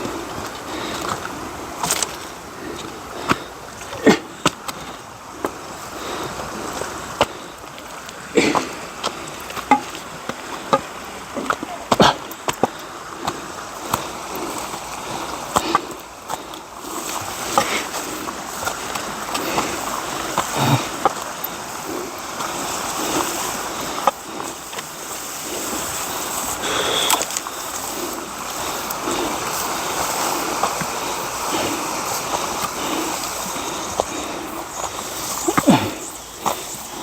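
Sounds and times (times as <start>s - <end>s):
seawater splashing: 0.0s - 37.0s.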